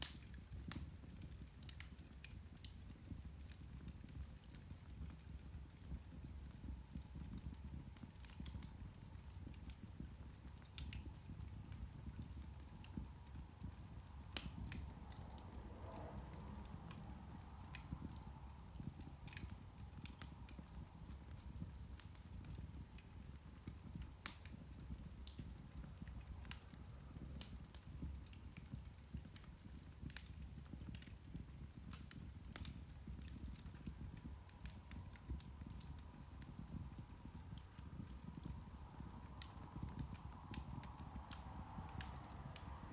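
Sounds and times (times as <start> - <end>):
peat fire crackling and popping: 0.0 - 42.9
low steady rumble: 1.8 - 42.9.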